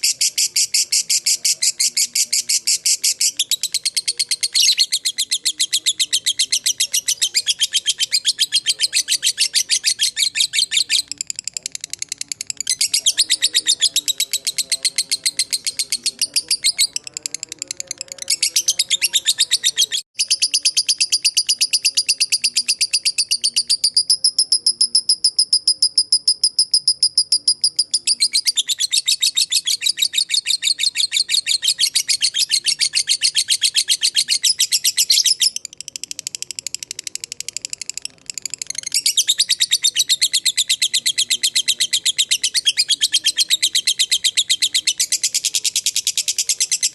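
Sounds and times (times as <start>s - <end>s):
lovebird chattering: 0.0s - 46.9s.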